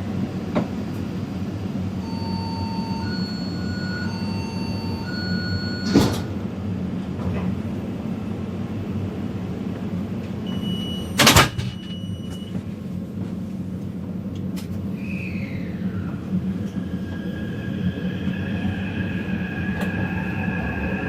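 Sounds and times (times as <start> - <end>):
train rumbling from inside: 0.0 - 21.0.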